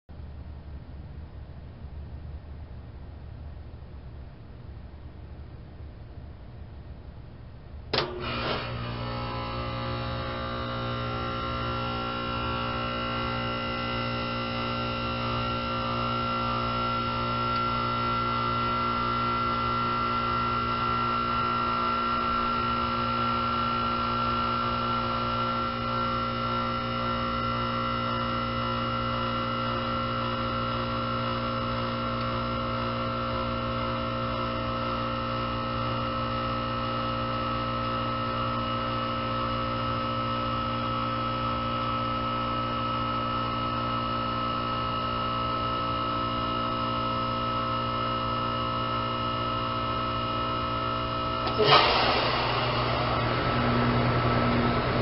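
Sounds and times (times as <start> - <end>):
heat pump compressor humming: 7.8 - 55.0.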